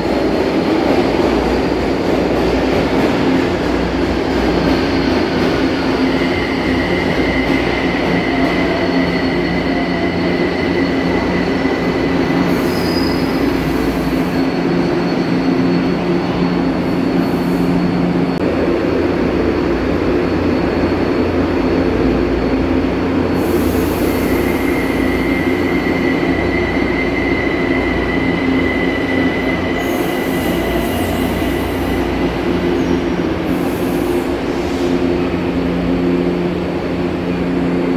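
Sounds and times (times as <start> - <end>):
train rumbling through station: 0.0 - 37.9.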